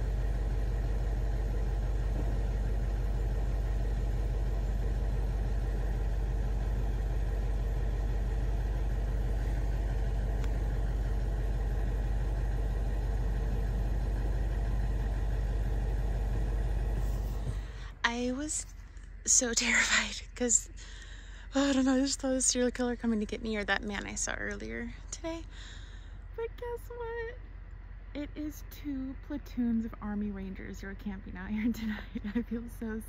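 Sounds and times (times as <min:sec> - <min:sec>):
large engine rumbling: 0:00.0 - 0:33.0.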